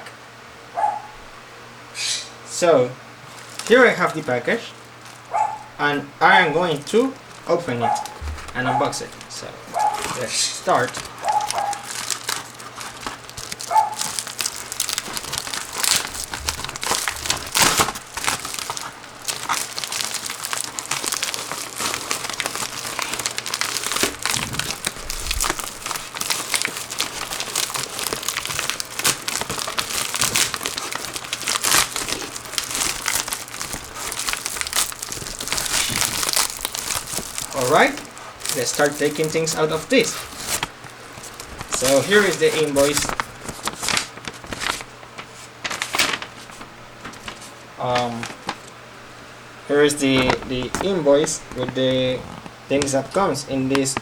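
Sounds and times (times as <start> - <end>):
packing material crinkling: 2.6 - 48.8, 49.7 - 54.0.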